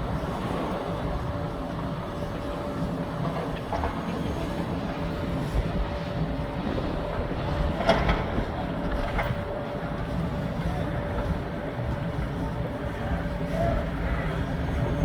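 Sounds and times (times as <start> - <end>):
low machinery rumble: 0.0 - 15.0.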